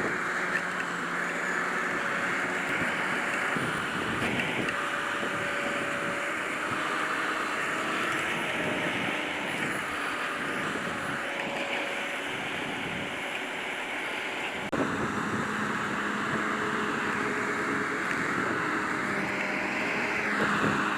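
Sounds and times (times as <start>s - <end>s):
harvester engine and machinery: 0.0s - 20.9s.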